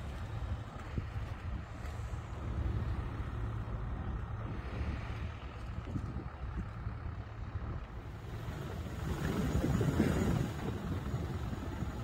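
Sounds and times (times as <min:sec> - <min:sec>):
traffic rumble: 0:00.0 - 0:12.0
wind noise: 0:00.0 - 0:12.0.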